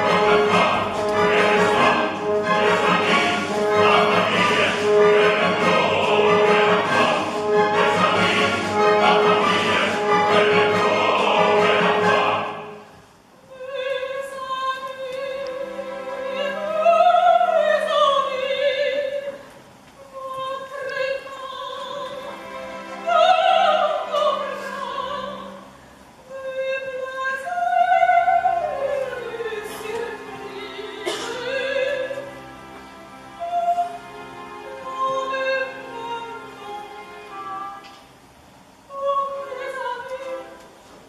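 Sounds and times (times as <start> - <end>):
soprano singing with vibrato: 0.0 - 32.3, 33.4 - 37.8, 38.9 - 40.6
soft orchestral accompaniment: 0.0 - 41.0.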